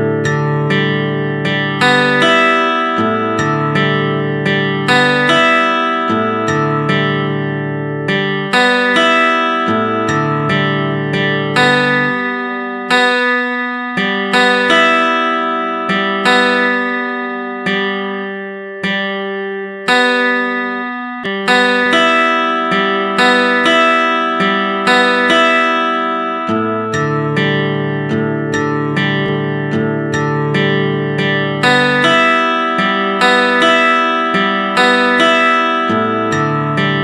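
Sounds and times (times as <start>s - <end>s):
plucked acoustic guitar music: 0.0s - 37.0s.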